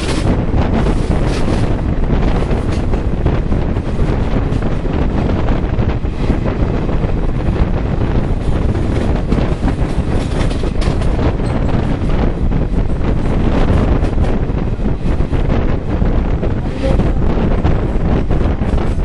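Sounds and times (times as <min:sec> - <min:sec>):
train wheels rumbling: 0:00.0 - 0:19.0
wind buffeting microphone: 0:00.0 - 0:19.0.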